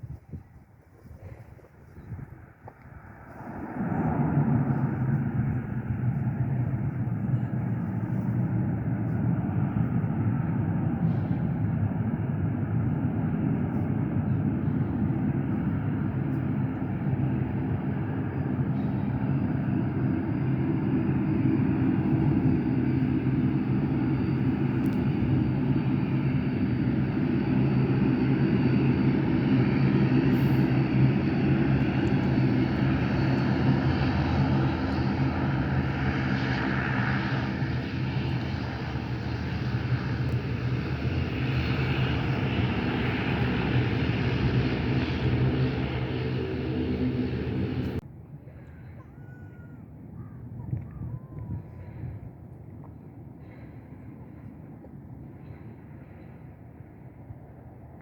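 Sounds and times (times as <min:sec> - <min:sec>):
airliner engines droning: 0:00.0 - 0:58.0.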